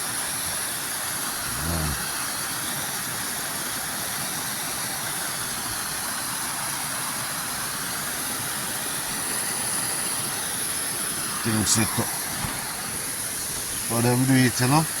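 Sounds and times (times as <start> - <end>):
river water rushing: 0.1 - 15.0.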